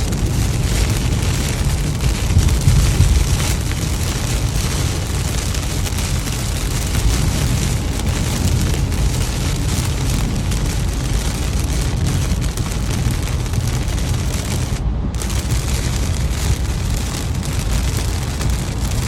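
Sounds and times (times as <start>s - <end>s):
car driving rumble: 0.0s - 19.0s
heavy rain on windscreen: 0.0s - 19.0s.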